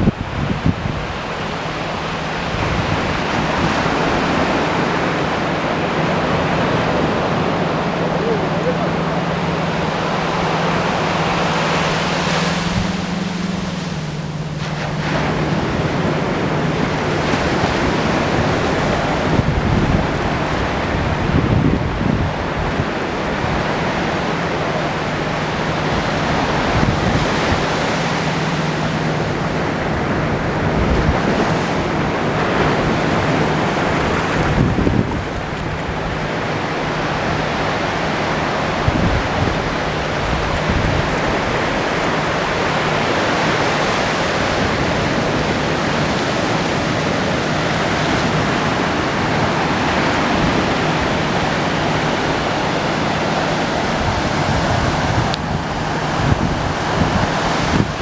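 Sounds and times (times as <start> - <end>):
ocean waves breaking on beach: 0.0 - 58.0
wind rumbling on microphone: 0.0 - 58.0.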